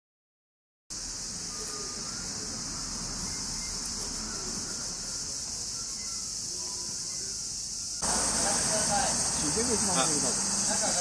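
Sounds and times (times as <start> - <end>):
insects chorus hiss: 0.9 - 11.0.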